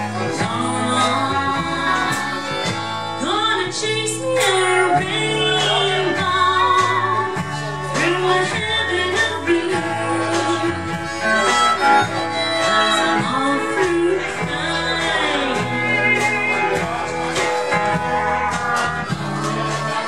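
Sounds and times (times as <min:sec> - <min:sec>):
country band playing: 0:00.0 - 0:20.0
woman singing: 0:00.0 - 0:20.0.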